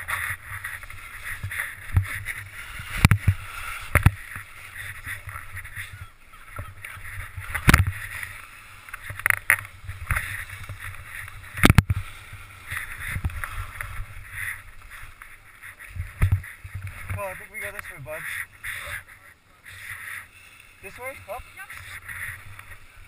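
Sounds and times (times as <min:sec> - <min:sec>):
skis scraping over snow: 0:00.0 - 0:23.0.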